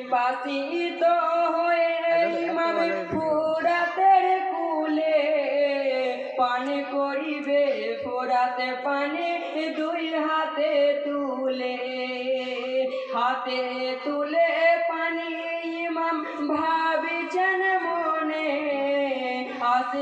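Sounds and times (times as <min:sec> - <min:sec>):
voices singing a lament: 0:00.0 - 0:20.0.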